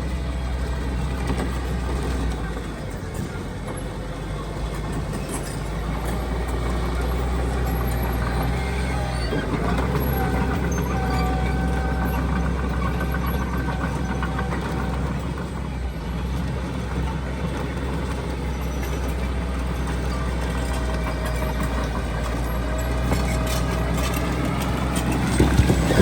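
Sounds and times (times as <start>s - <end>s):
heavy diesel machinery rumbling: 0.0s - 26.0s.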